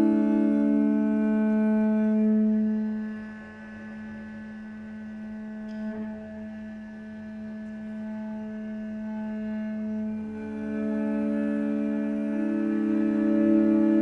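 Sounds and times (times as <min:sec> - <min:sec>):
cello bowed drone: 0:00.0 - 0:14.0.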